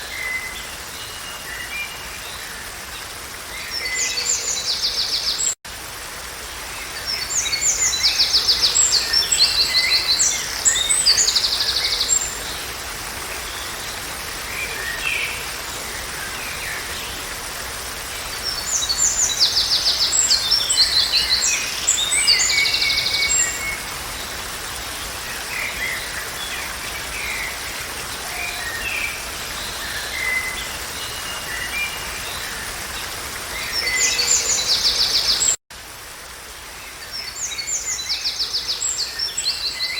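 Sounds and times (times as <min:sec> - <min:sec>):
songbirds singing with trill: 0:00.0 - 0:05.6, 0:06.8 - 0:17.4, 0:18.0 - 0:35.6, 0:36.9 - 0:39.9.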